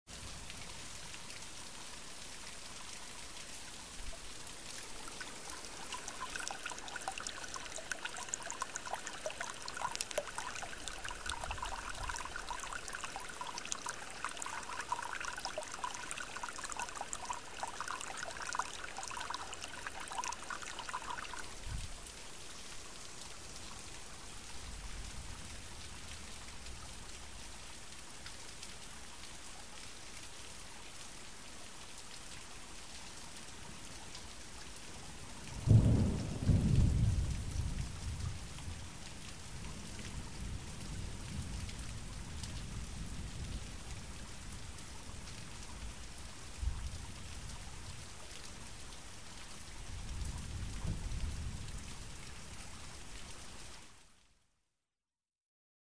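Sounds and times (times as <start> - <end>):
storm water pouring and splashing: 0.1 - 54.2
steady rain: 0.1 - 54.4.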